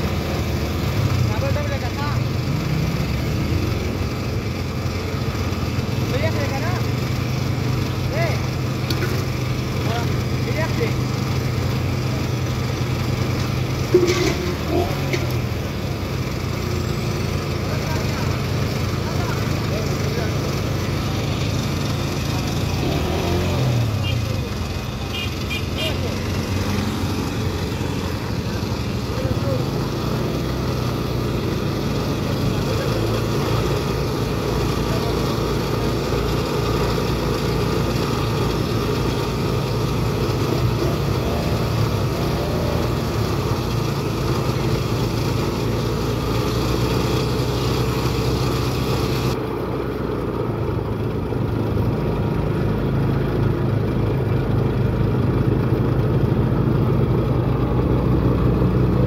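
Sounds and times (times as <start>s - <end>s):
sugarcane crusher engine running: 0.0s - 59.0s.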